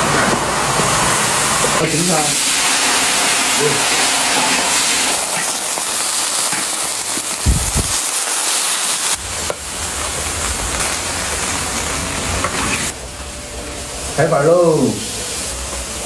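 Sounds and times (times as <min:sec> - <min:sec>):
pork bones sizzling in a wok: 0:00.0 - 0:16.0.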